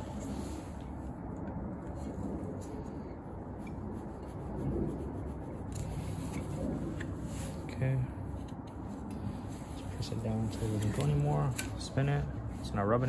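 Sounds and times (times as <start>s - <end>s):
low background noise: 0.0s - 13.0s
soft rubbing of gloved hands: 0.0s - 13.0s.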